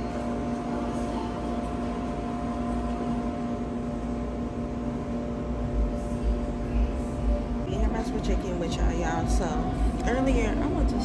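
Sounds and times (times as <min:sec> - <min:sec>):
machine hum with low rumble: 0:00.0 - 0:11.0.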